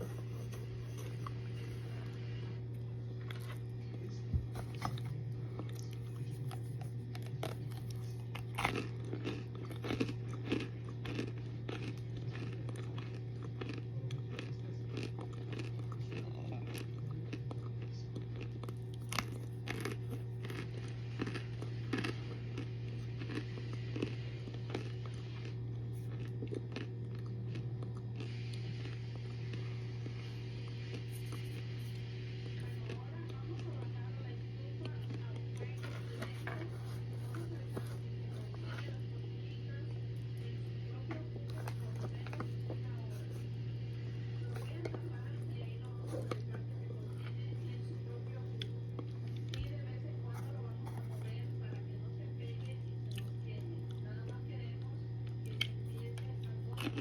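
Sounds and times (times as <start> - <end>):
crisp chewing crunches: 0.0 - 34.1, 34.7 - 51.9, 52.6 - 54.4, 55.2 - 57.0
steady low hum: 0.0 - 57.0.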